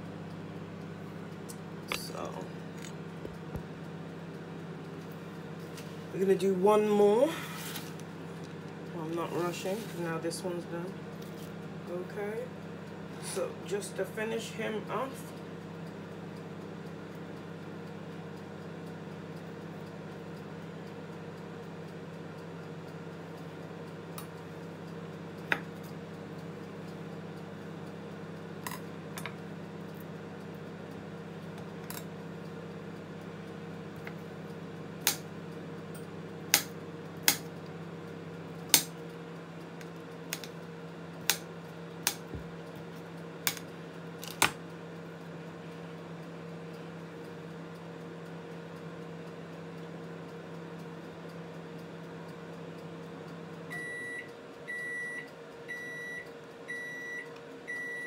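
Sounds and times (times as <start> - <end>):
low kitchen appliance hum: 0.0 - 58.0.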